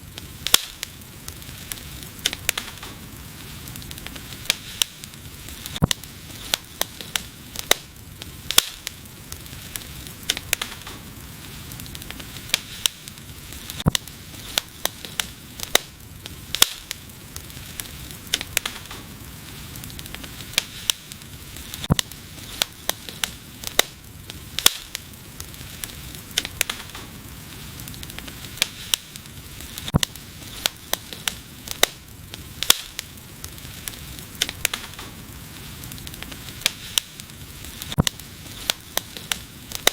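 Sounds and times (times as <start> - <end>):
soft hiss of burning: 0.0 - 39.9
wood fire crackling: 0.0 - 39.9.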